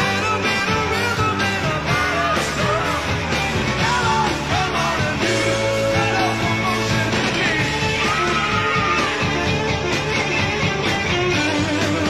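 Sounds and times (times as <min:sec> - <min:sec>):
bass guitar: 0:00.0 - 0:12.0
drums: 0:00.0 - 0:12.0
electric guitar: 0:00.0 - 0:12.0.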